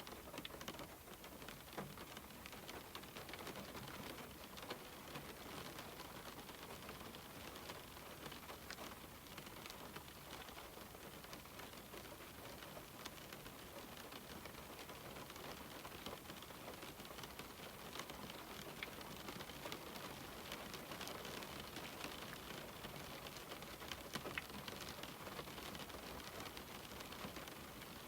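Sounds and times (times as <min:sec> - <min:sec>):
rain on a window: 0:00.0 - 0:28.0.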